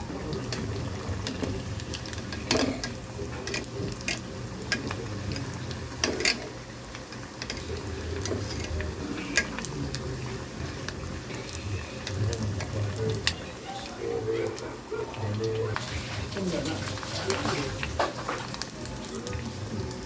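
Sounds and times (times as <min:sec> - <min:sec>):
utensils clinking against cookware: 0:00.1 - 0:20.0.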